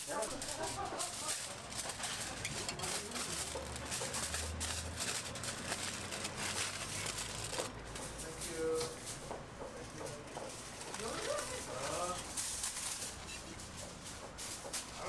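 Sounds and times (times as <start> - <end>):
aluminium foil crinkling: 0.0 - 9.2, 9.8 - 15.0.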